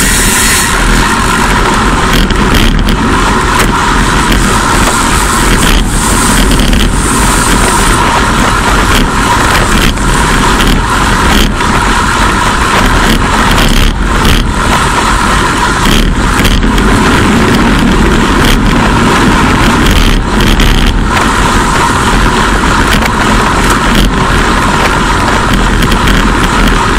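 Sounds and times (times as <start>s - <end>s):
road noise: 0.0s - 26.9s
wind rushing over microphone: 0.0s - 26.9s.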